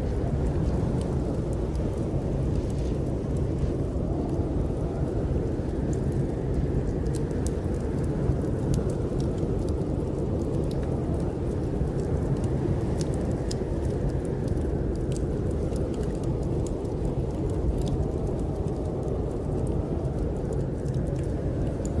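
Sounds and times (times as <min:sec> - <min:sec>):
snowstorm wind rumbling: 0:00.0 - 0:22.0
wood fire crackling: 0:00.0 - 0:22.0.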